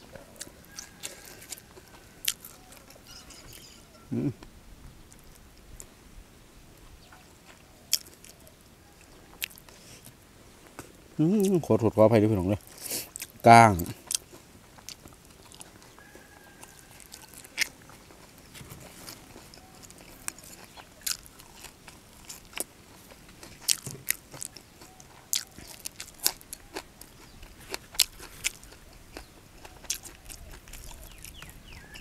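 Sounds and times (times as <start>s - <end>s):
chewing with crunches: 0.0s - 4.4s, 7.1s - 11.8s, 12.5s - 32.0s.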